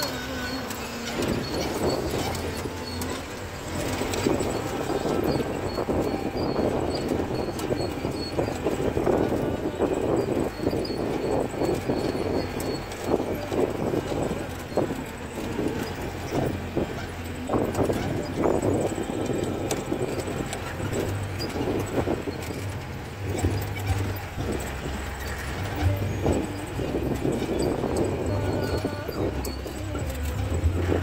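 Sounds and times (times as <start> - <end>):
vehicle body rattling and knocking: 0.0 - 31.0
vehicle engine running: 0.0 - 31.0.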